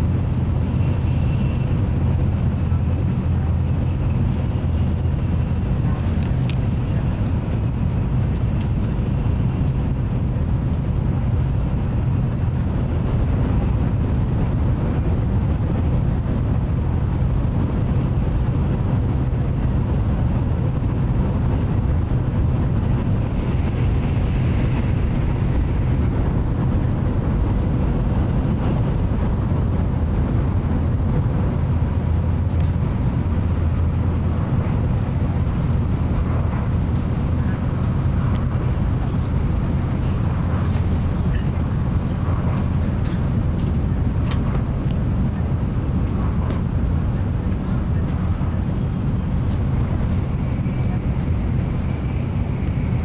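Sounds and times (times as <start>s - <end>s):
train cabin low rumble: 0.0s - 53.0s.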